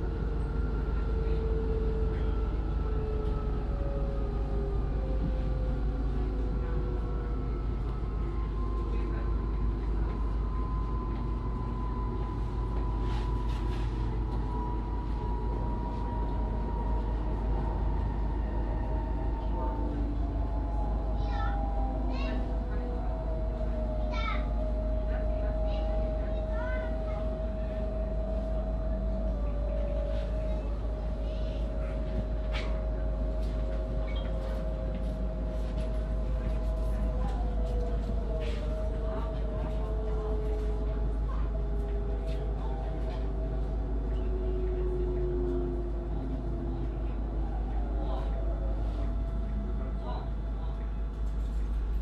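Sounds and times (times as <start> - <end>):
constant whine: 0.0 - 52.0
train wheels rumbling on track: 0.0 - 52.0.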